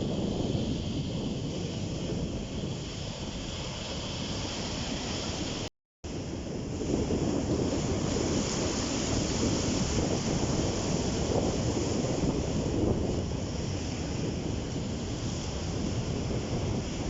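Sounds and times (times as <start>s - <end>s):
wind buffeting microphone: 0.0s - 17.0s
sea waves breaking on shore: 0.1s - 17.0s.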